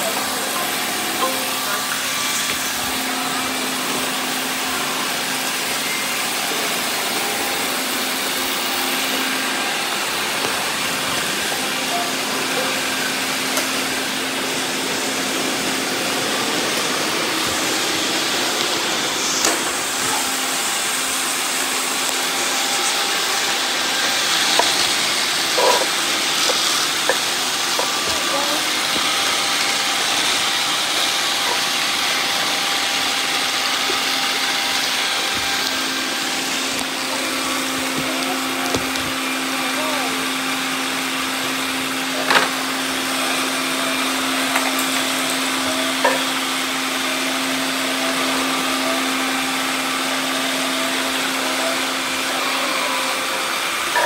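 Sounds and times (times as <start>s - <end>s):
robot vacuums whirring: 0.0s - 54.0s.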